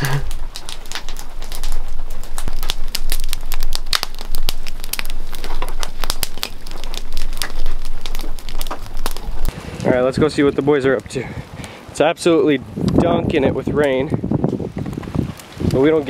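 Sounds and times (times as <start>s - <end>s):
crinkling and crackling clicks: 0.0s - 11.8s, 12.8s - 16.0s.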